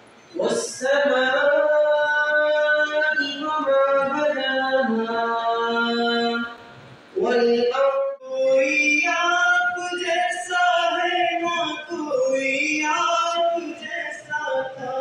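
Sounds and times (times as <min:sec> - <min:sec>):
person singing unaccompanied: 0:00.4 - 0:15.0.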